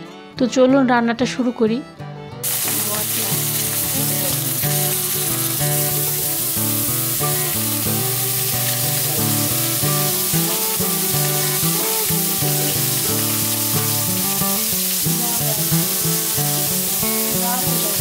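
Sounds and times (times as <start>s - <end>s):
soft background music: 0.0s - 18.0s
fish sizzling in hot oil: 2.4s - 18.0s.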